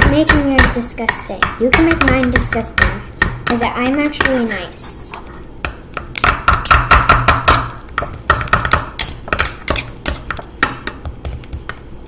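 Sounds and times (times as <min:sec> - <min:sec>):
spoons chopping on wooden board: 0:00.0 - 0:04.6, 0:05.6 - 0:11.9.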